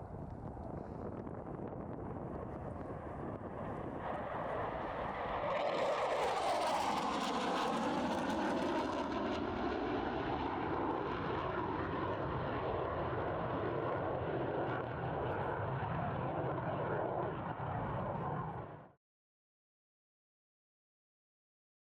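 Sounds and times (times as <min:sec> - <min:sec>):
jet engines flying past: 0:00.0 - 0:19.0.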